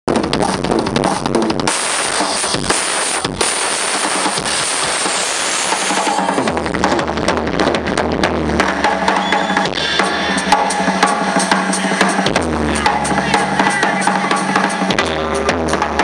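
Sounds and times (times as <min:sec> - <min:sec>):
drum roll with crashing cymbals: 0:00.1 - 0:16.0
live rock band playing: 0:00.1 - 0:16.0.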